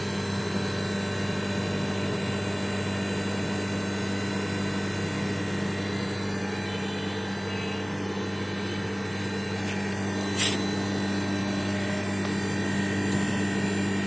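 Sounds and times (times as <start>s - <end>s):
air conditioner unit humming: 0.0s - 14.0s.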